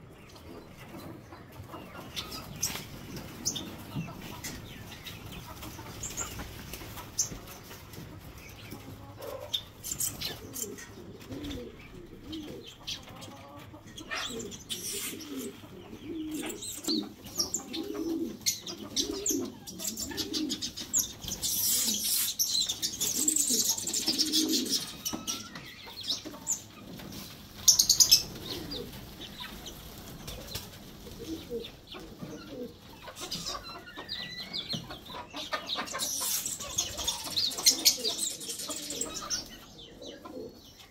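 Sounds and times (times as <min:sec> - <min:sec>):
pigeons cooing: 0:00.0 - 0:40.9
small birds chirping: 0:00.0 - 0:40.9.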